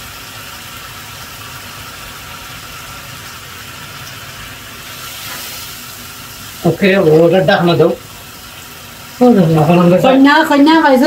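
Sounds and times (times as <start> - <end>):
curry bubbling and sizzling in pan: 0.0 - 11.0.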